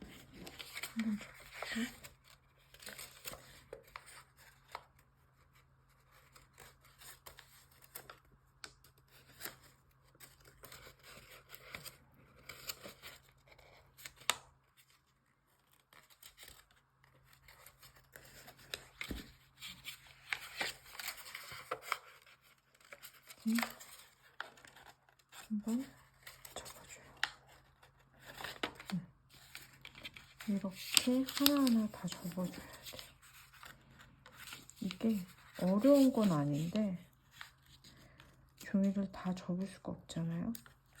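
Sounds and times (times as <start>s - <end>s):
paper rustling while folded: 0.0s - 39.2s.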